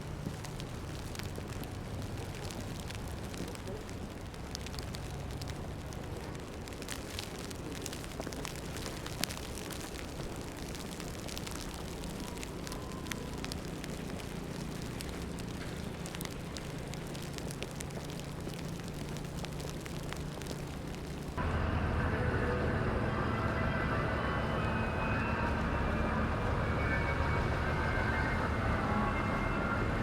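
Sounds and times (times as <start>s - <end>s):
city traffic drone: 0.0s - 30.0s
wet snow and sleet crackling: 0.0s - 30.0s.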